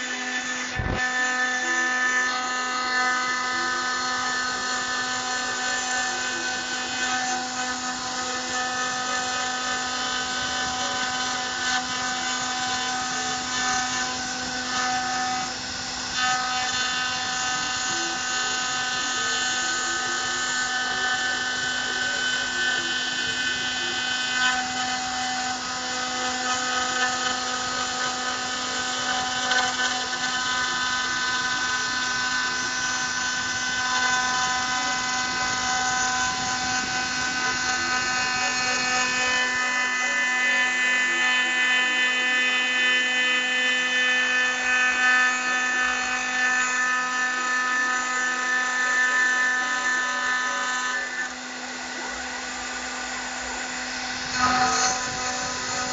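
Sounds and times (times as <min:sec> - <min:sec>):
cnc spindle whining: 0:00.0 - 0:55.9.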